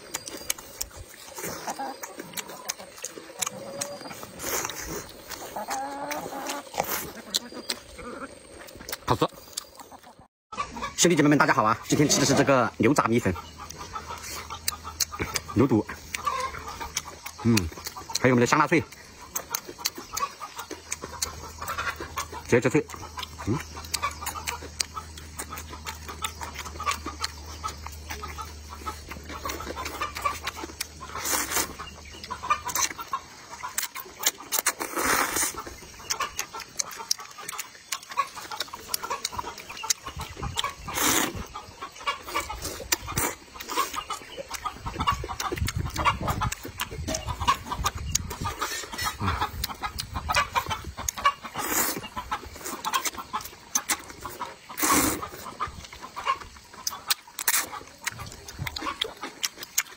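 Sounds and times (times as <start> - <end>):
noodles slurped and chewed: 0.0 - 10.3, 13.1 - 59.9
chickens clucking: 0.0 - 59.9.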